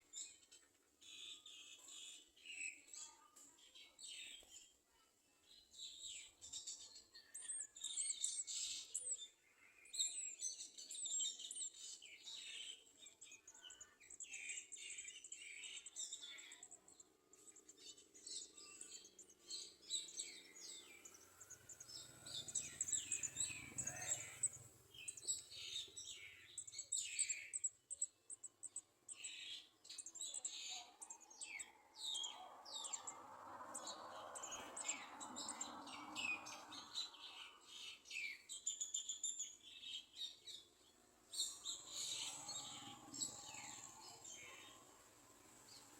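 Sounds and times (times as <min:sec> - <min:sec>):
sunbirds chirping: 0:00.0 - 0:45.9.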